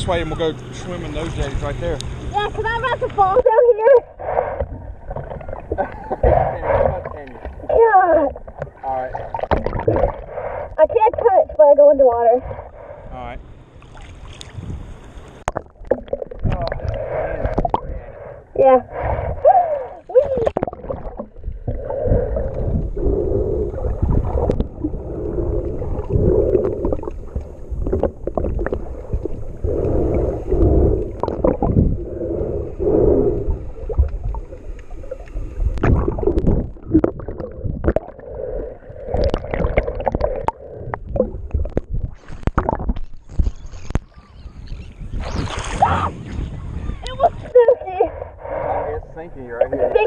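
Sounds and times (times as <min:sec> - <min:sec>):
muffled underwater gurgling: 0:01.2 - 0:13.5, 0:15.5 - 0:50.0
water splashes: 0:03.9 - 0:11.4, 0:13.8 - 0:44.2, 0:45.2 - 0:48.0.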